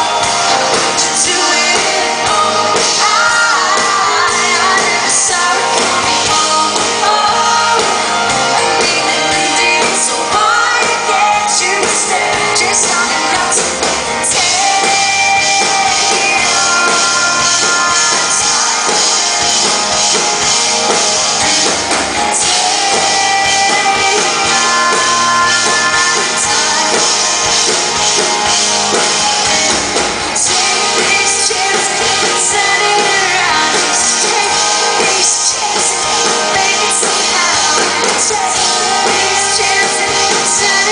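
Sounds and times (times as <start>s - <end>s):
rock band playing live: 0.0s - 40.9s
woman singing lead vocal: 0.0s - 40.9s.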